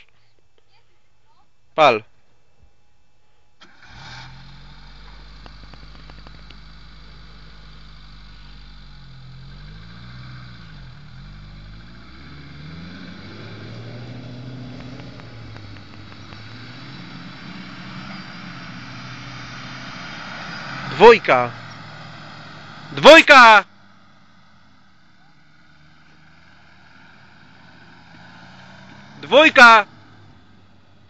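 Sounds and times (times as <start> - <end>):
car engine starting and revving: 3.6 - 31.0.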